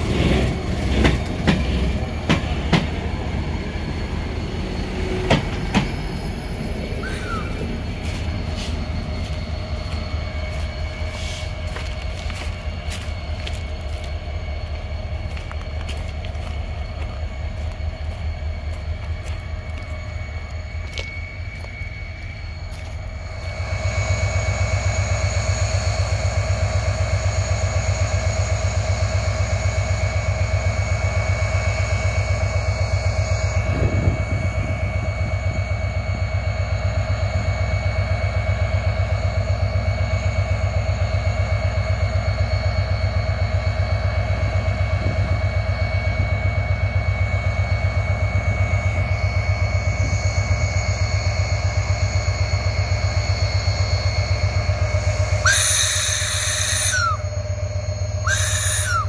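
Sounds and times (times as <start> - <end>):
constant whine: 0.0 - 59.0
diesel locomotive idling: 0.0 - 59.0.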